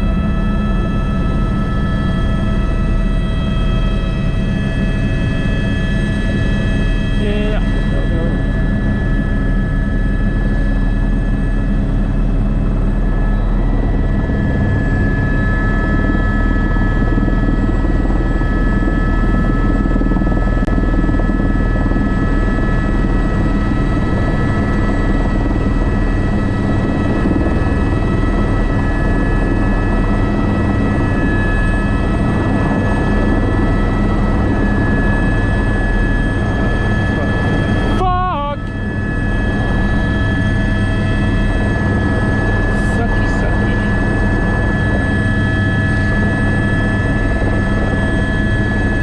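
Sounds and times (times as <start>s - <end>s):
helicopter rotor and engine noise: 0.0s - 49.0s
high turbine whine: 0.0s - 49.0s.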